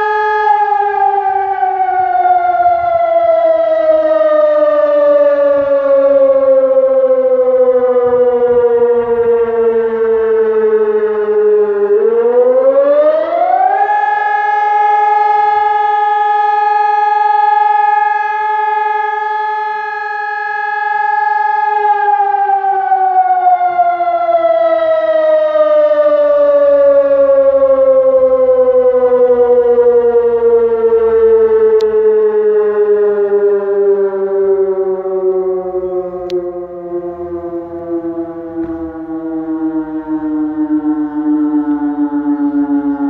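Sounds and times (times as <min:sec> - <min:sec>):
electronic siren tone: 0:00.0 - 0:43.0.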